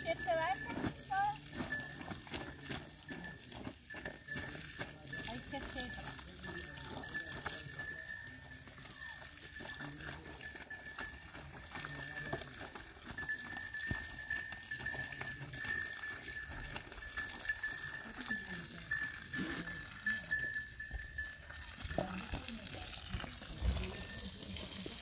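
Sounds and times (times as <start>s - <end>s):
hooves clicking and clattering: 0.0s - 25.0s.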